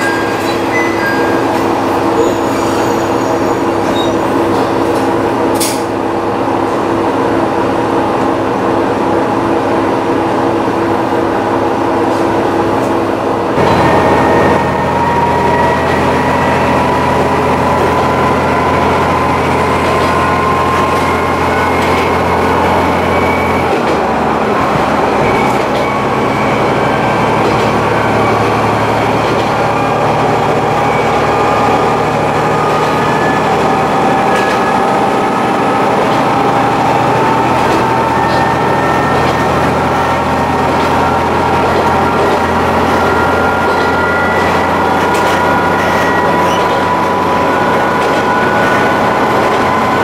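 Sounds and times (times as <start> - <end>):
diesel railcar engine running: 0.0 - 50.0.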